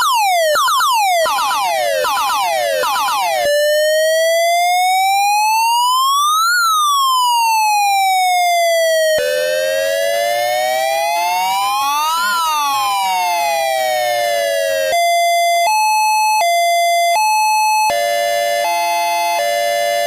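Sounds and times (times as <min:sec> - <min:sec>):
police siren switching tones: 0:00.0 - 0:20.0.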